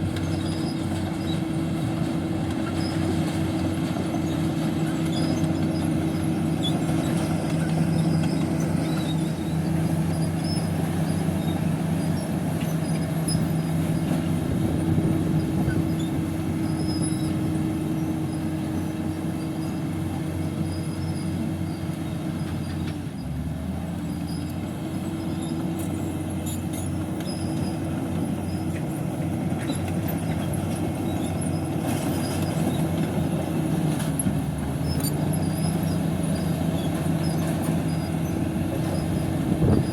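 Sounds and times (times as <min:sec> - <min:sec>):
heavy diesel machine engine: 0:00.0 - 0:39.9.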